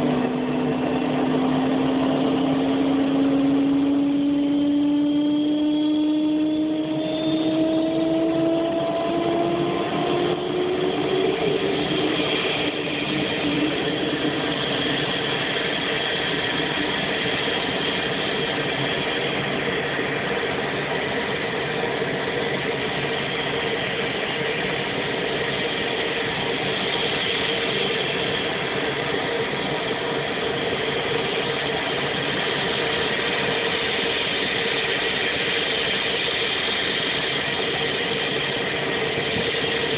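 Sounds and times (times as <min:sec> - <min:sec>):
turboprop engine running: 0:00.0 - 0:39.9.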